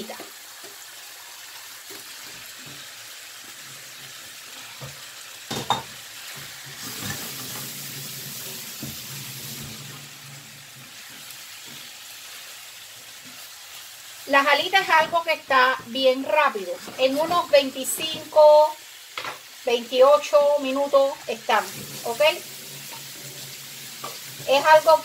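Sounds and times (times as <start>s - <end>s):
chicken wings sizzling in a pan: 0.0s - 25.0s
spatula stirring in a pan: 0.1s - 14.2s, 14.8s - 18.5s, 21.0s - 24.8s.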